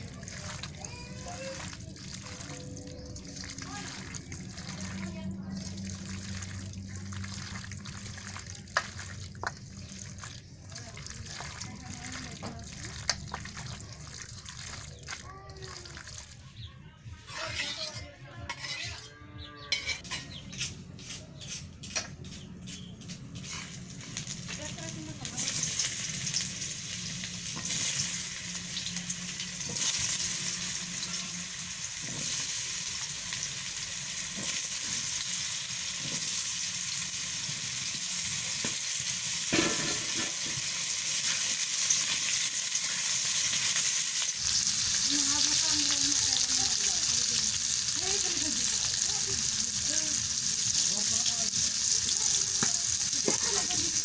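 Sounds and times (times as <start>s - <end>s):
stirring in a pan: 0.0s - 16.2s, 22.7s - 54.0s
food sizzling in hot oil: 0.0s - 16.4s, 23.3s - 54.0s.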